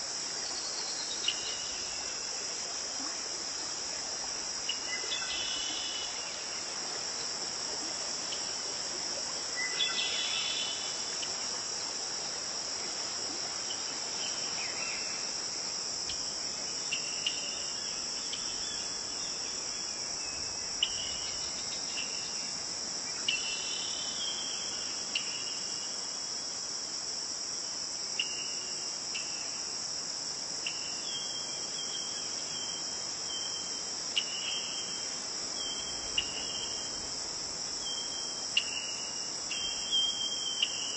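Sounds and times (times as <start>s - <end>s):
crickets chorus: 0.0s - 40.9s.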